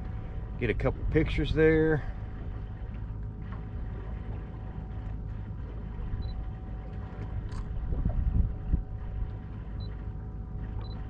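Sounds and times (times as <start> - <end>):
boat engine idling: 0.0 - 11.0
faint steady hum: 0.0 - 11.0.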